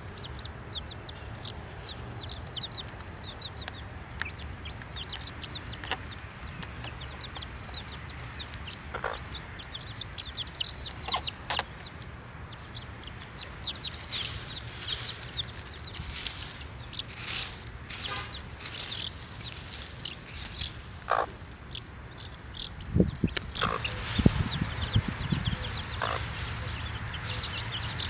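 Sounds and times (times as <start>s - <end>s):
baby chicks peeping: 0.0s - 28.0s.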